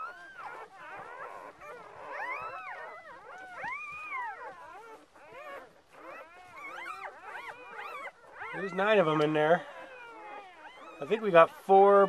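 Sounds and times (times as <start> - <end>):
newborn puppies crying: 0.0 - 12.0.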